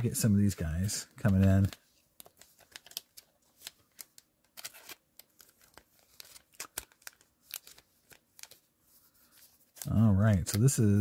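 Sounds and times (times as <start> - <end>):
cards rustling: 0.1 - 11.0.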